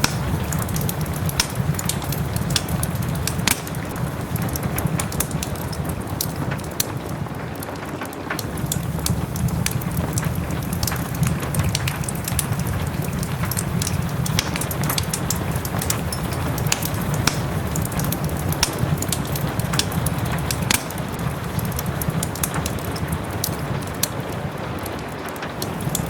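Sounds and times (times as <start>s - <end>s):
soft rain hiss: 0.0s - 26.0s
wood fire crackling and popping: 0.0s - 26.0s.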